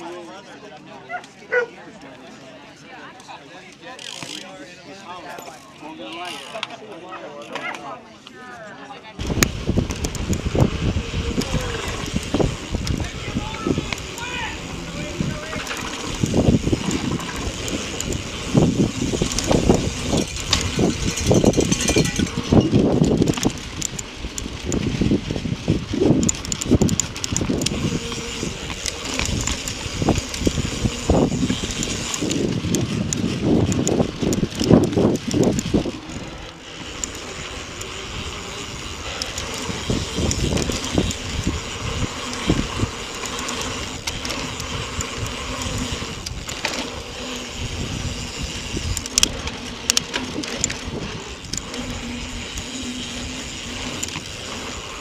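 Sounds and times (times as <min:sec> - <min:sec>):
bike rattling over bumps: 0:09.2 - 0:55.0
bike tyres on loose dirt: 0:09.2 - 0:55.0.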